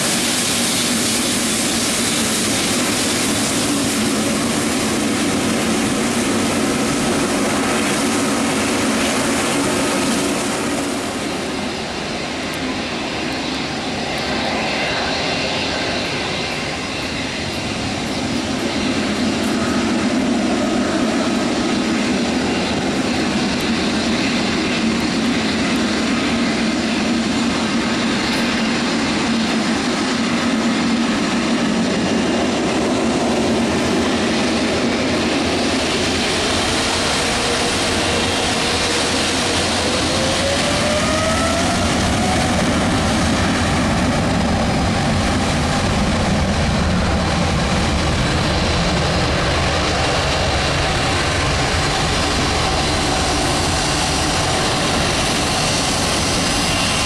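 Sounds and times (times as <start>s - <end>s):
jet engine whine spooling up: 0.0s - 57.0s
jet engines running: 0.0s - 57.0s.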